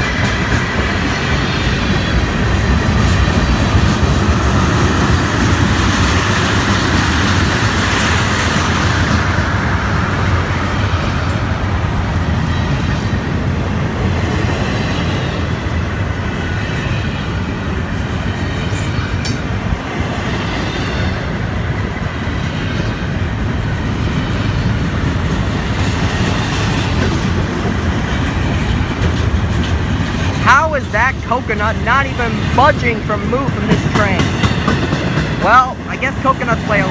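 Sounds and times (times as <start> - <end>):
train clicks and clanks: 0.0 - 36.9
train wheels rumbling on rails: 0.0 - 36.9.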